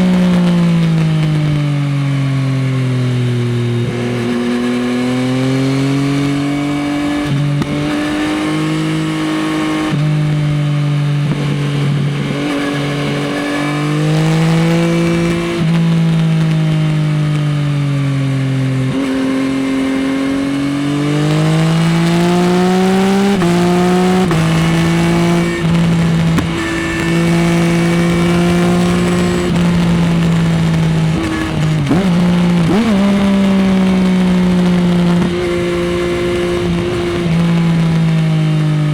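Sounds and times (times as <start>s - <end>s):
motorcycle engine revving: 0.0s - 38.9s
motorcycle throttle blips: 0.0s - 38.9s.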